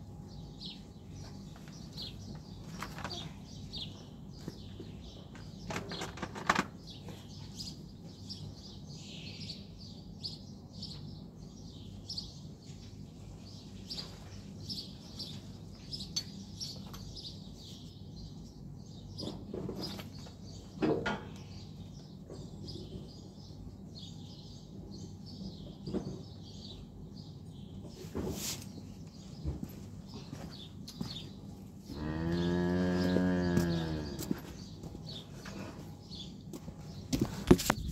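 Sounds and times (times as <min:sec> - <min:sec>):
small birds chirping: 0:00.2 - 0:37.9.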